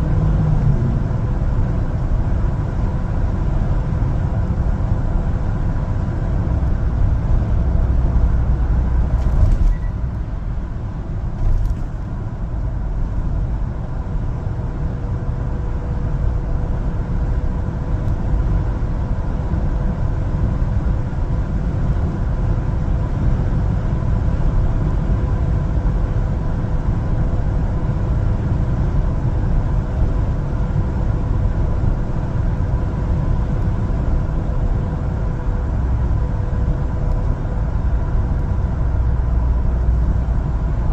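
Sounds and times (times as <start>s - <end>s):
truck engine and road rumble: 0.0s - 40.9s.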